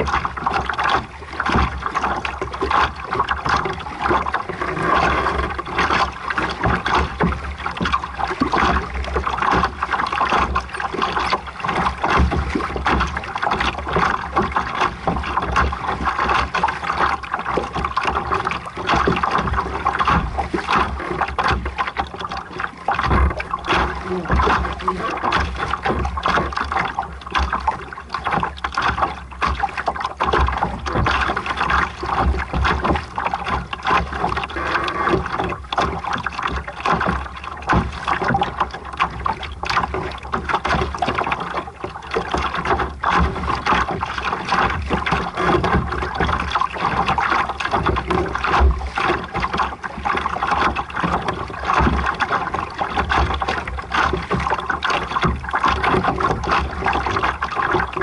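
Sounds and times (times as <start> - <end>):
water rushing along boat hull: 0.0 - 58.0.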